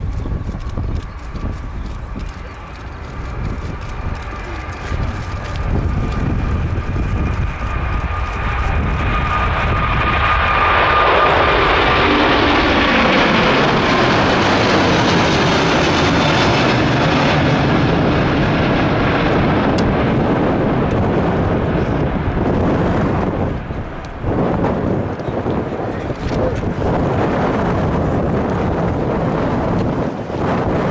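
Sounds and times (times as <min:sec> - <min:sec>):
jet engine high whine: 0:00.0 - 0:30.9
jet engine roar: 0:00.0 - 0:30.9.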